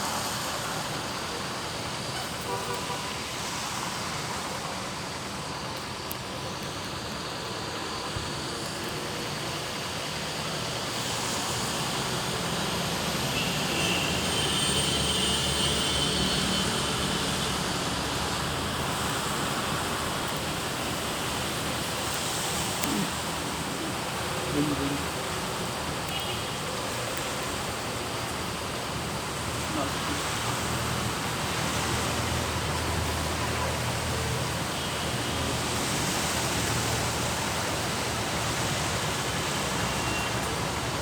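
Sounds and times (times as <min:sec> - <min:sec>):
heavy rain: 0:00.0 - 0:41.0
traffic on wet road: 0:00.0 - 0:41.0.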